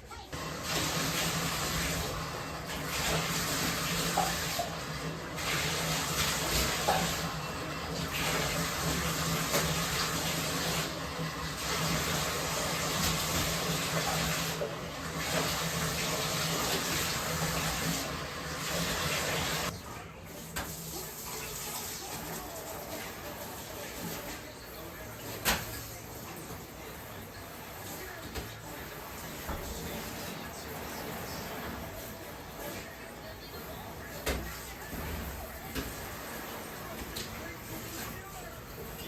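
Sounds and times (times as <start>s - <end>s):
water running from a tap: 0.0s - 39.0s.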